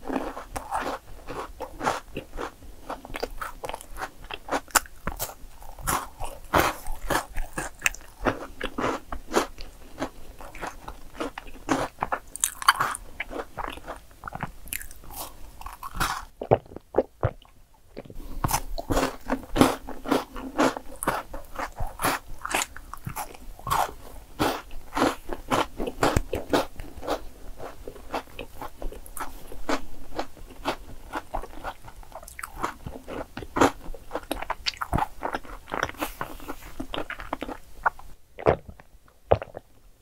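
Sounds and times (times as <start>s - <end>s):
chewing and crunching chocolate: 0.0s - 39.8s.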